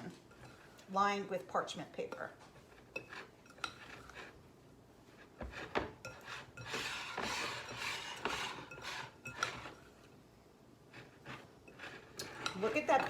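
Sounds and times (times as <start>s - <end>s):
utensil scraping a mixing bowl: 0.0s - 4.4s, 5.1s - 10.1s, 10.9s - 13.0s.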